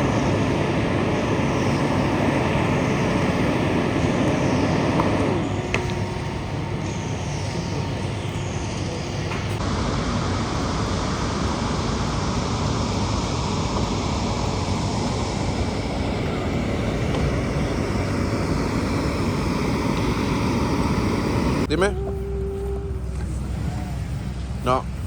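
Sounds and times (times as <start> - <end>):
construction machinery diesel drone: 0.0 - 25.0.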